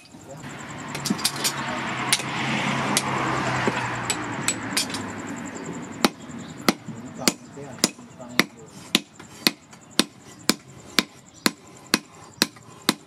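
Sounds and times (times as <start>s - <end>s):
hammer striking metal on anvil: 0.9s - 5.1s, 6.0s - 13.0s.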